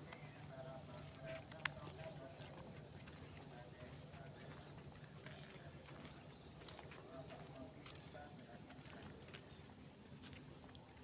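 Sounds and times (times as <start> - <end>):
faint distant voices: 0.0 - 11.0.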